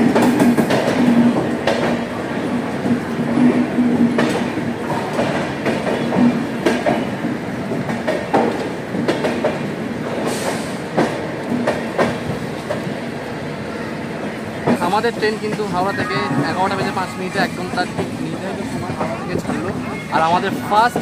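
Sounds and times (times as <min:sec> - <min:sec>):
train wheels clattering on rails: 0:00.0 - 0:13.5, 0:14.1 - 0:21.0.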